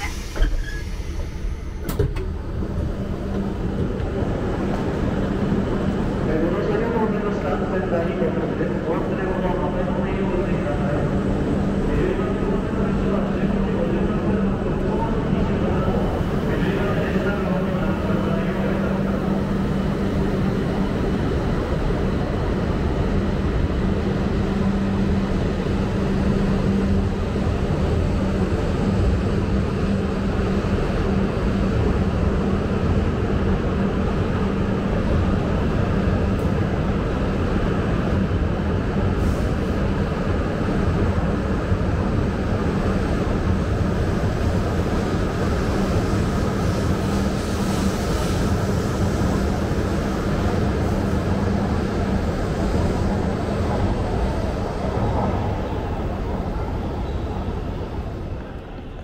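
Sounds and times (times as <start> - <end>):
high-speed train passing: 0.0 - 59.0.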